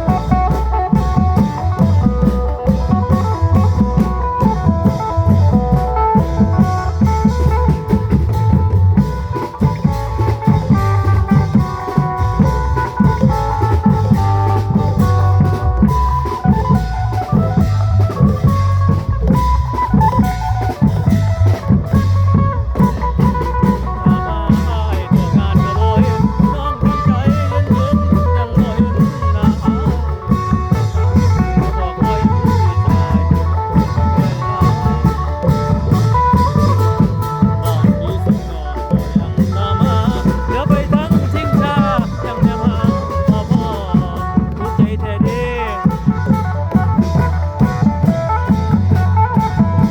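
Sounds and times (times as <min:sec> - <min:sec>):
long drums playing: 0:00.0 - 0:49.9.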